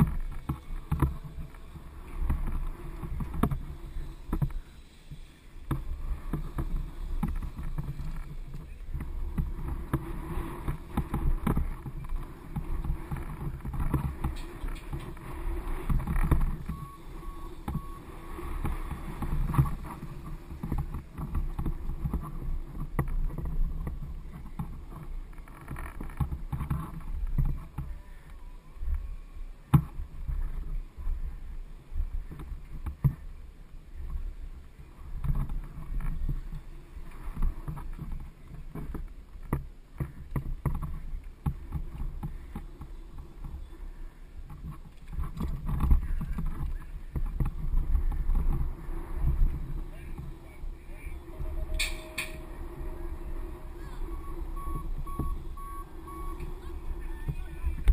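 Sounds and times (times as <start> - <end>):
bike rattling and knocking: 0.0 - 28.0, 34.0 - 57.9
wind and tyre rumble: 0.0 - 57.9.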